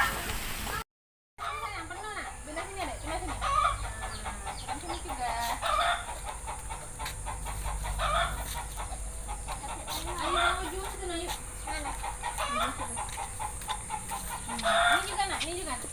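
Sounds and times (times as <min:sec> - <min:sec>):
chickens clucking: 0:01.4 - 0:15.9.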